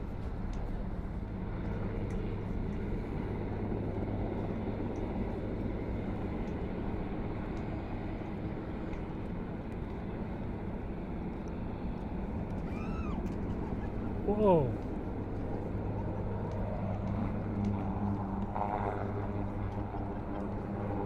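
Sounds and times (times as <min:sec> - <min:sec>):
helicopter rotors droning: 0:00.0 - 0:21.0.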